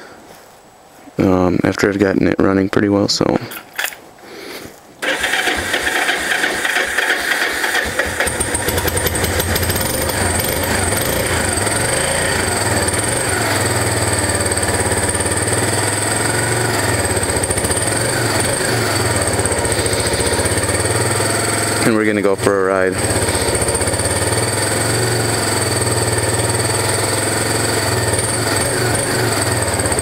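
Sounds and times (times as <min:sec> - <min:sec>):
motorcycle engine starting and idling: 0:05.0 - 0:30.0.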